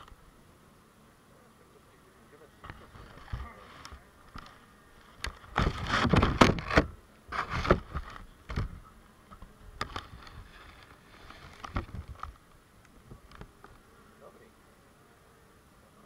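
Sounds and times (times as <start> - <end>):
bees scratching and tapping: 0.0 - 16.0.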